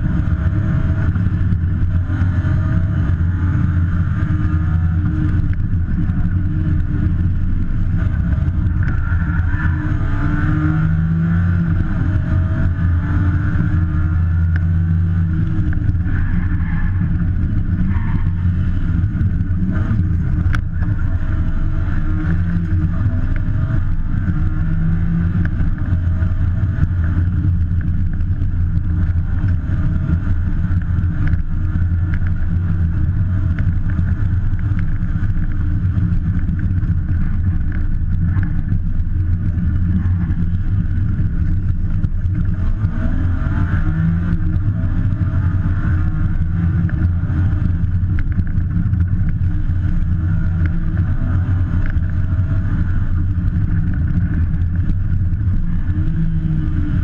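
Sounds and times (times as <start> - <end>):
rally car engine at speed: 0.0 - 57.0
road noise: 0.0 - 57.0.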